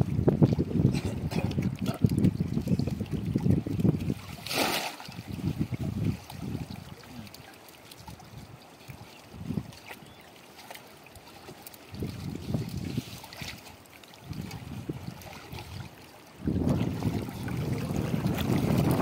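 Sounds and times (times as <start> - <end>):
river water sloshing and splashing: 0.0 - 19.0.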